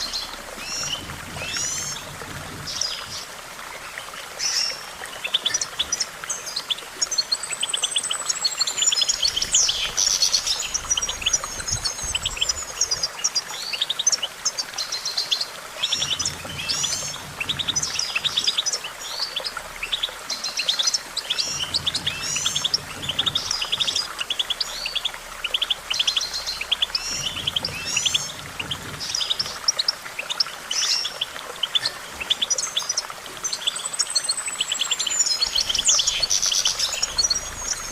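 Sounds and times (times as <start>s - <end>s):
goldfinch twittering song: 0.0s - 37.9s.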